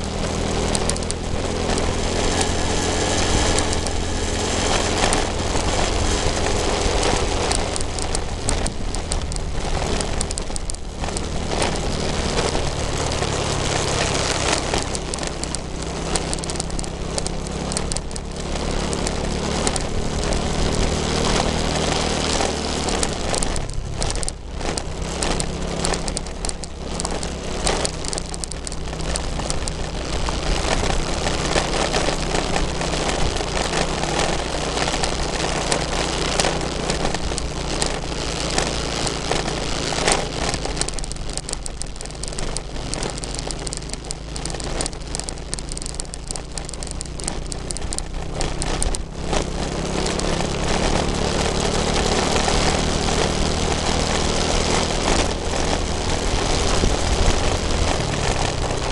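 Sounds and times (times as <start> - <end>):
motorcycle engine running: 0.0 - 58.9
wind buffeting microphone: 0.0 - 58.9.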